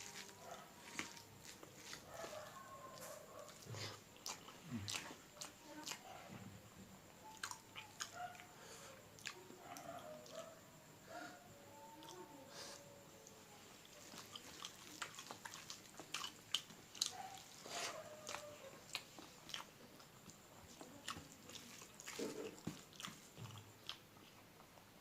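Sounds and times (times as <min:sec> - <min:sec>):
wet chewing and lip smacks: 0:00.0 - 0:06.0, 0:07.2 - 0:08.5, 0:09.2 - 0:10.5, 0:13.2 - 0:24.9.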